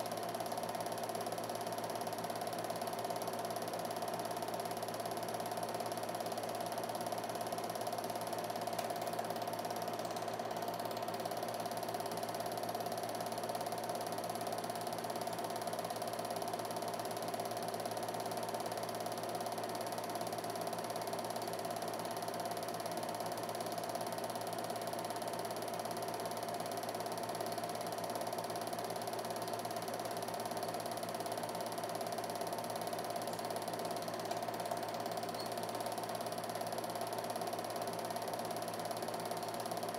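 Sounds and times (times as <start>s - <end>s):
film projector whir and clatter: 0.0s - 39.9s.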